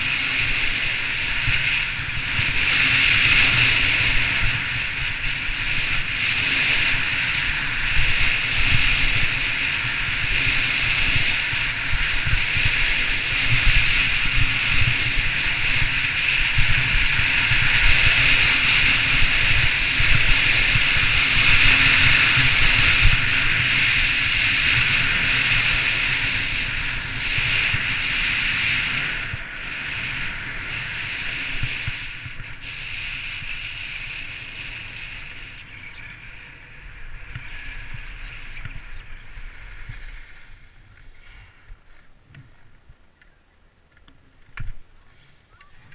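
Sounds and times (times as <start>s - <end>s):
skis carving on snow: 0.0s - 43.0s.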